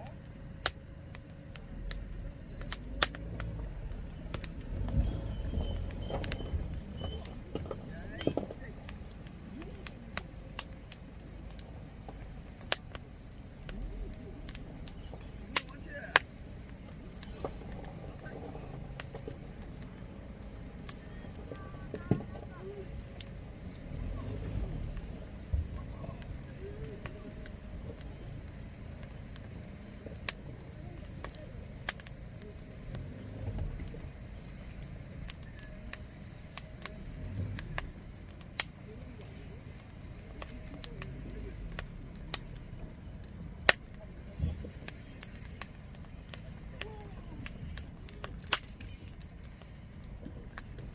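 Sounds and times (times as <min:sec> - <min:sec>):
campfire crackling and popping: 0:00.0 - 0:50.9
low background rumble: 0:00.0 - 0:50.9.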